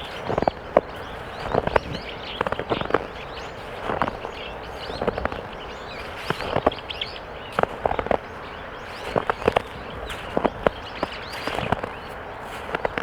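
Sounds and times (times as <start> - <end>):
footsteps crunching on snow: 0.0 - 13.0.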